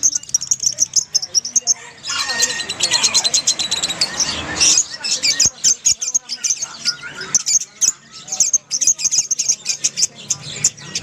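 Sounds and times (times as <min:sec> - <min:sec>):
lovebirds chirping and squeaking: 0:00.0 - 0:11.0.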